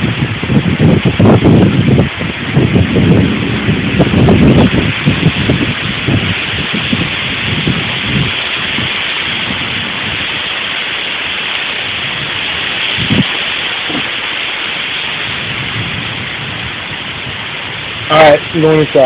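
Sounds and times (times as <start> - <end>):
heavy rain pouring: 0.0 - 19.0
wind gusts buffeting microphone: 0.0 - 19.0.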